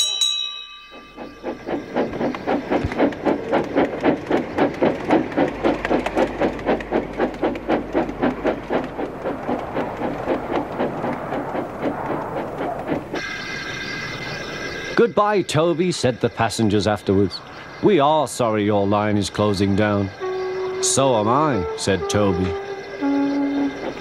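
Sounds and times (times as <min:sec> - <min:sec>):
steam engine chuffing: 0:00.9 - 0:15.1, 0:18.8 - 0:24.0.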